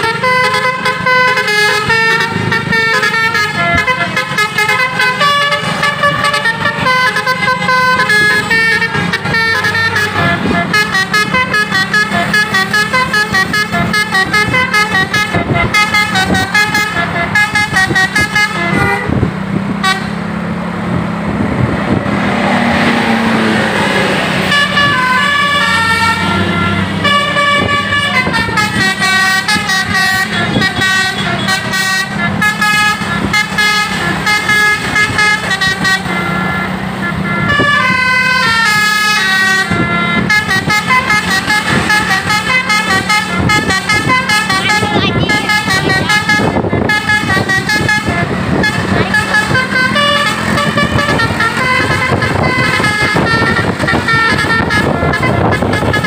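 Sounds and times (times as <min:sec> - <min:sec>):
musical air horn: 0:00.0 - 0:20.2, 0:24.3 - 0:56.0
bus engine hum: 0:00.0 - 0:56.0.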